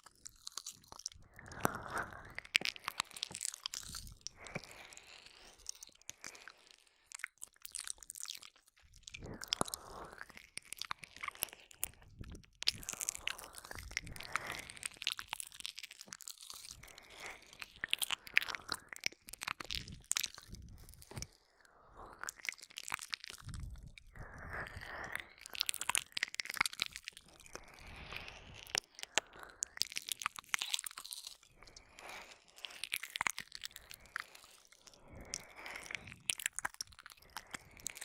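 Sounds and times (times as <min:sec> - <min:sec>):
wet licking mouth sounds: 0:00.0 - 0:21.4, 0:22.2 - 0:38.0.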